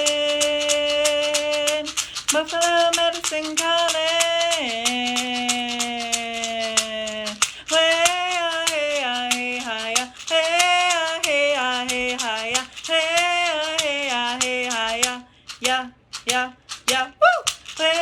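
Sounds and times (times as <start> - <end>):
fast hand-drum beat: 0.0 - 18.0
woman singing vocables: 0.0 - 18.0.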